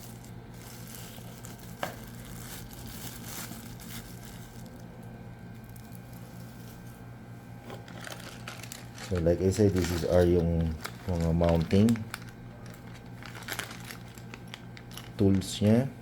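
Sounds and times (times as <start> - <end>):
plastic packaging crinkling: 0.0 - 7.0, 7.6 - 15.8
steady low hum: 0.0 - 16.0.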